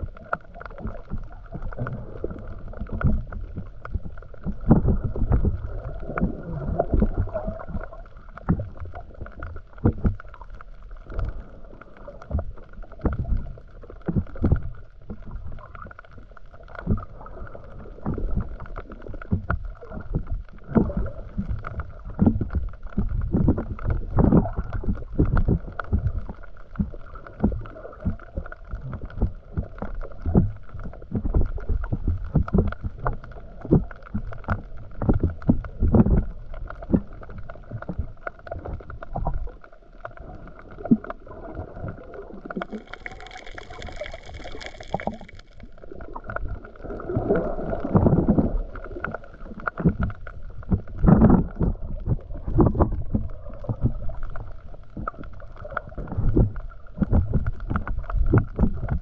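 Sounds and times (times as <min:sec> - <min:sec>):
muffled rushing water: 0:00.0 - 0:59.0.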